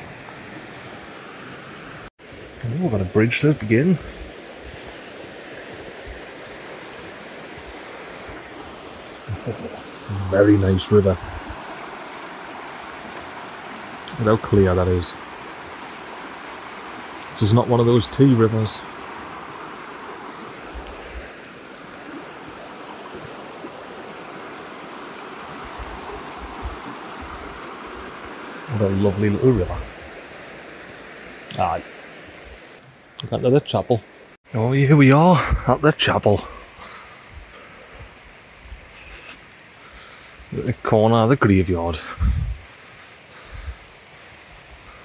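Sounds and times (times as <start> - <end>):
small river flowing: 0.0 - 45.0.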